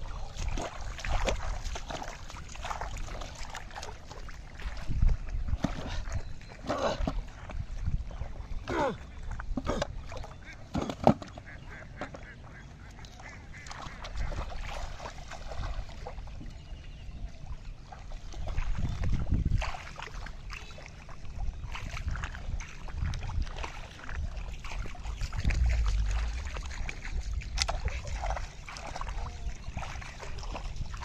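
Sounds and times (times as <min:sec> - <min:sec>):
wind rumbling on microphone: 0:00.0 - 0:10.5, 0:14.2 - 0:31.0
bare feet splashing through water: 0:00.0 - 0:31.0.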